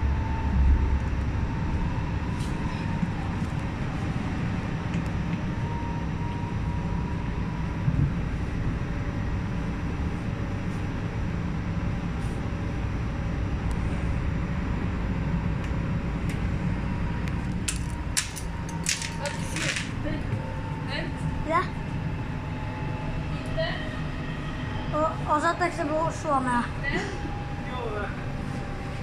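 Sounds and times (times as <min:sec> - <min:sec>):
metro train rumbling: 0:00.0 - 0:29.0.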